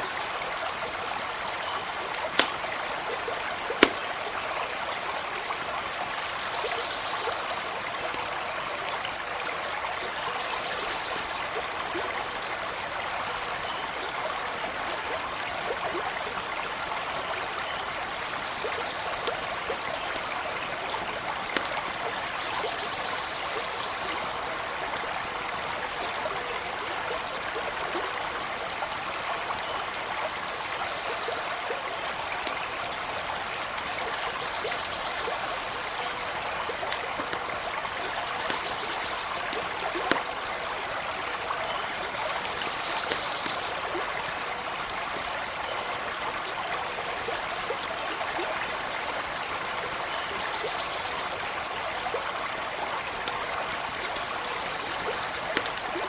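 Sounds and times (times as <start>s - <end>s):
campfire crackling: 0.0s - 56.0s
stream babbling: 0.0s - 56.0s.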